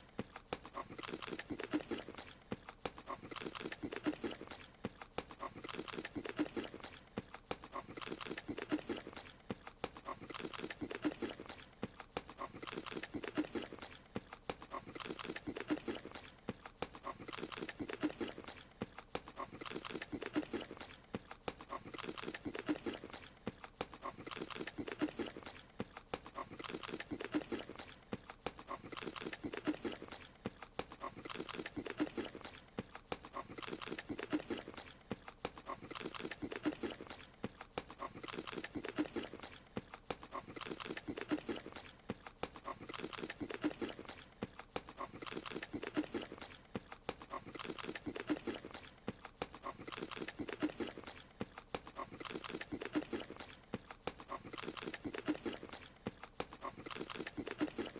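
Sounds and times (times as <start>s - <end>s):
cartoon munching and chomping: 0.0s - 57.9s.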